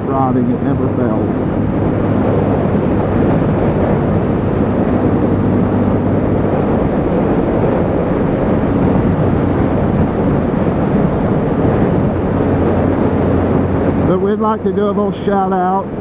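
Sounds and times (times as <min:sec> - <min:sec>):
motorcycle engine running: 0:00.0 - 0:15.7
wind rushing over microphone: 0:00.0 - 0:16.0.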